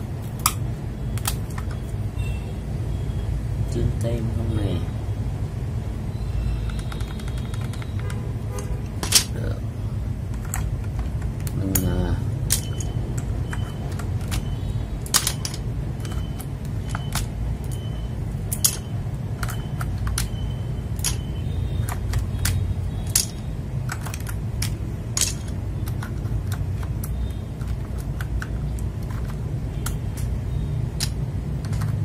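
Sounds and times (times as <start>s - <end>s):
keycaps clicking and clacking: 0.0s - 2.1s, 6.6s - 32.0s.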